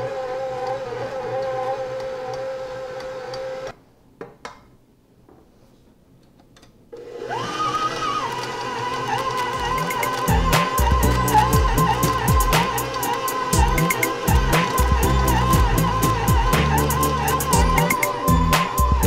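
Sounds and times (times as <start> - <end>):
stand mixer motor whining: 0.0 - 3.7, 7.0 - 19.0.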